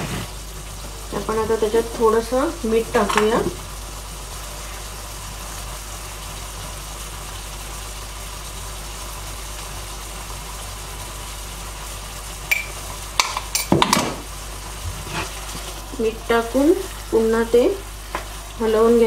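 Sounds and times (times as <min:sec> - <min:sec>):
gravy simmering with soft sizzle: 0:00.0 - 0:19.0.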